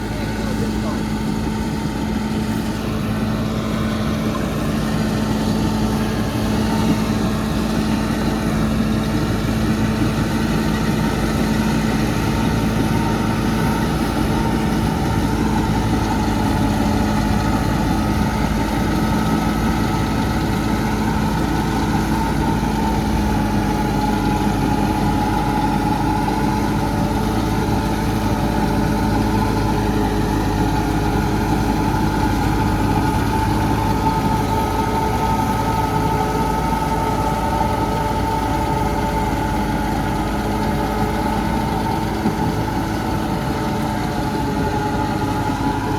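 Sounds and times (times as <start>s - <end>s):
tractor diesel engine droning: 0.0s - 45.9s.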